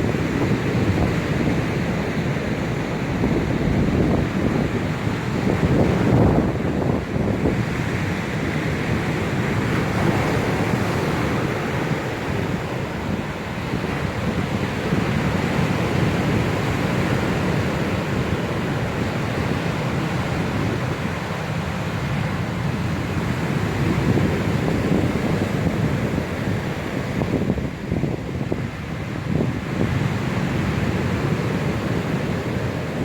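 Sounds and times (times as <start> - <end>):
strong wind on microphone: 0.0 - 21.4, 22.1 - 33.0.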